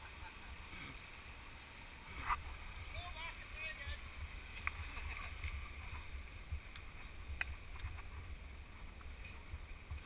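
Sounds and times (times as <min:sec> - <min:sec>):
fast-flowing river rushing: 0:00.1 - 0:10.0.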